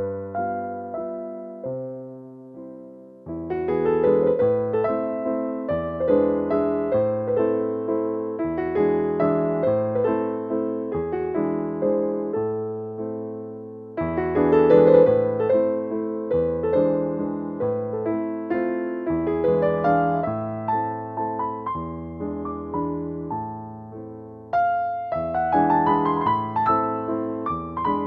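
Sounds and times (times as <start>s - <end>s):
gentle piano piece: 0.0s - 28.0s.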